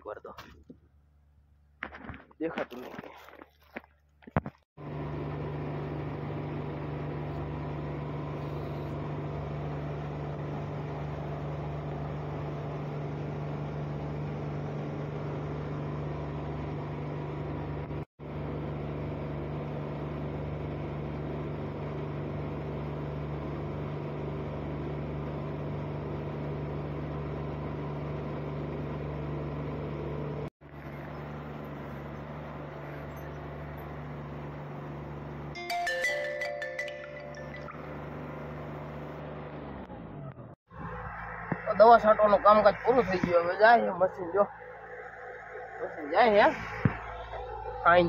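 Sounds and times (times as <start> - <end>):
tractor diesel engine droning: 4.8 - 48.0.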